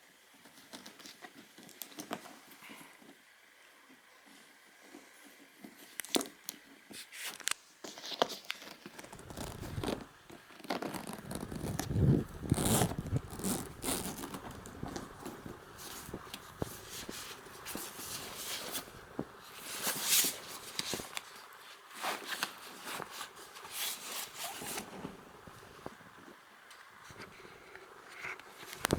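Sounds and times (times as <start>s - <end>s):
rustling and scraping: 4.9s - 28.9s.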